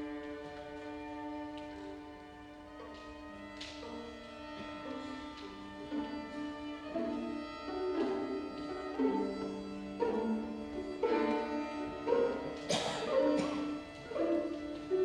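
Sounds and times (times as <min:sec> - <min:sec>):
string orchestra bowed notes: 0:00.0 - 0:15.0.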